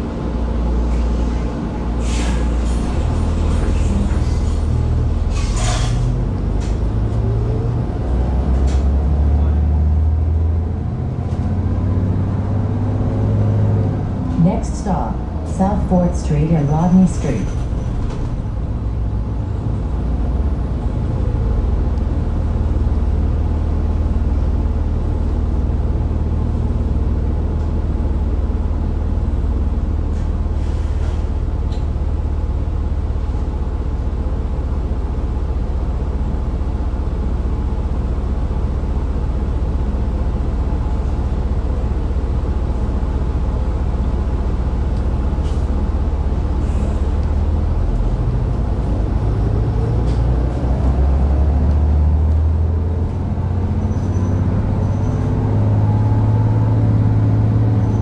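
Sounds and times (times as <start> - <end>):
bus drivetrain drone: 0.0 - 58.0.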